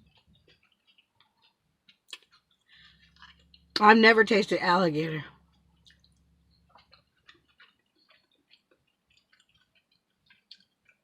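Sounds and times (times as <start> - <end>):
person chewing food: 0.0 - 3.8, 5.3 - 11.0.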